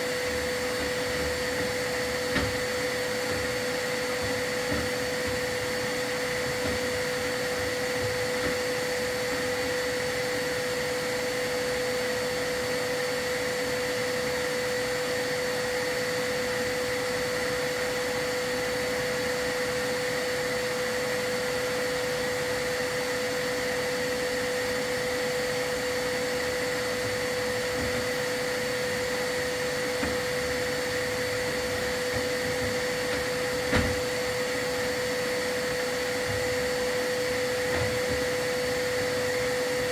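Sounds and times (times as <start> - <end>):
vacuum motor whining: 0.0 - 39.9.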